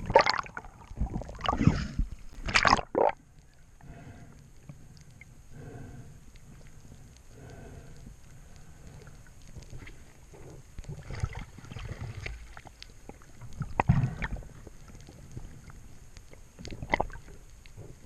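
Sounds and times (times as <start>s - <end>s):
underwater water sloshing: 0.0s - 18.0s.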